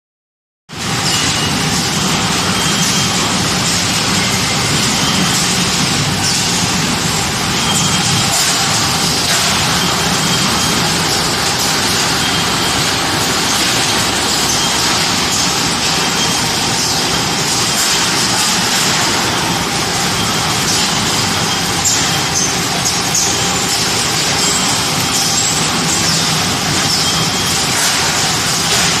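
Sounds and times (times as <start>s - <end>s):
packing machine hiss and hum: 0.8s - 29.0s.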